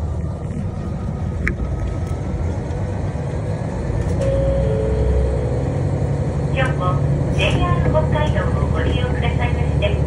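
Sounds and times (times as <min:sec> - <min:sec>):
diesel railcar engine rumble: 0:00.0 - 0:10.0
steady humming tone: 0:00.0 - 0:10.0.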